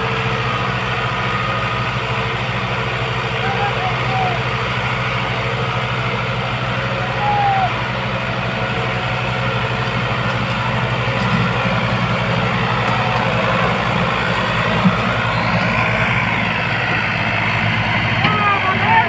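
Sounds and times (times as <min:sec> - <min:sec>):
engine knock: 0:00.0 - 0:19.0
tractor diesel engine running: 0:00.0 - 0:19.0.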